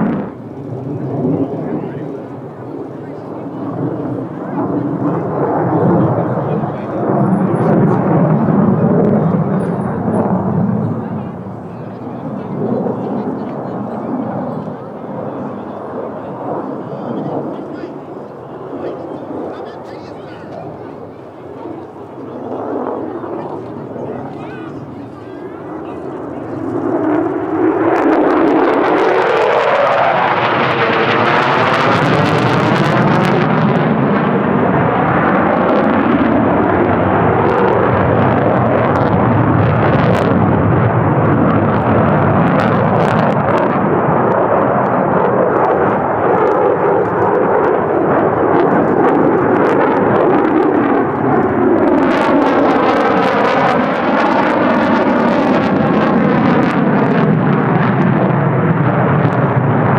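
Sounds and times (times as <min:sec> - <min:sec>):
fighter jet roaring overhead: 0:00.0 - 0:59.9.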